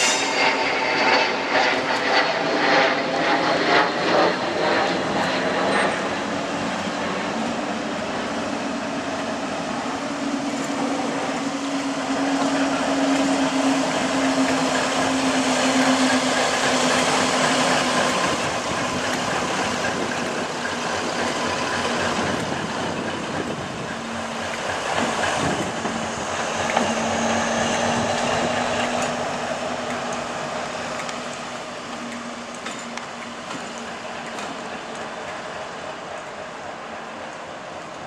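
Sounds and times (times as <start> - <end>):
diesel locomotive engine drone: 0.0 - 38.0.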